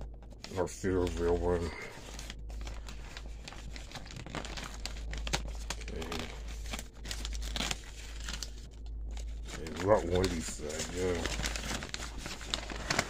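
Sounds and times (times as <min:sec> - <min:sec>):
paper bag crinkling: 0:00.0 - 0:13.0.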